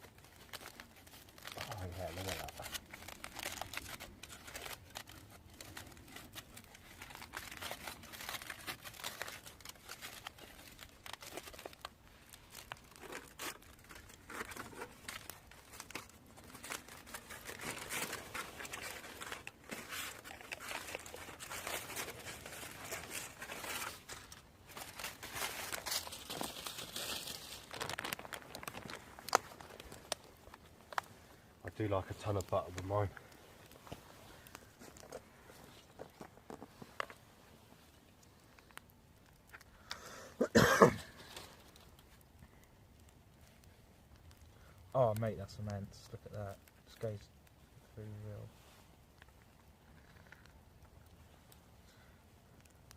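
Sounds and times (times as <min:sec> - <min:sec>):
foil crinkling and tearing: 0:00.0 - 0:47.2.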